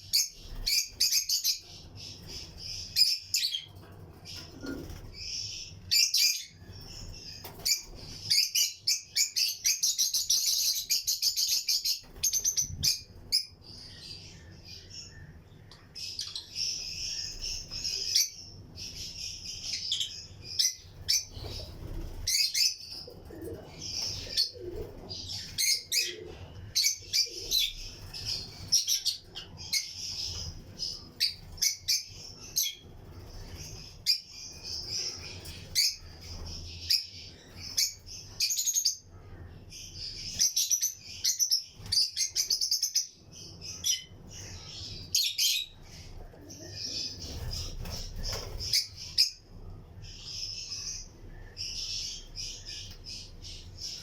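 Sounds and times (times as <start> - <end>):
lovebirds chirping: 0.0 - 54.0.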